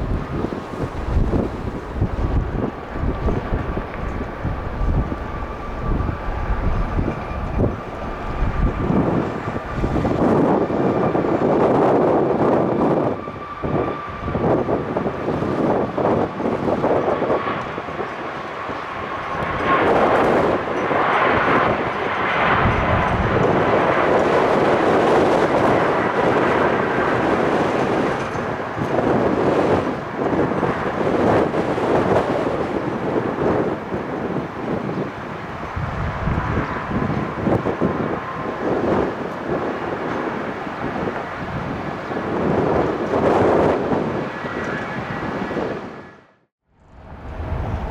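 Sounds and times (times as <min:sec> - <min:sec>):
jet engine roaring at takeoff: 0:00.0 - 0:47.9
wind buffeting microphone: 0:00.0 - 0:47.9.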